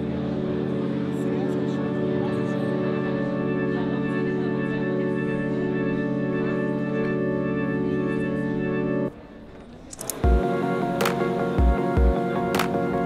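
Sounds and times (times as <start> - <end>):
sustained music chord: 0.0 - 9.4, 10.2 - 13.0.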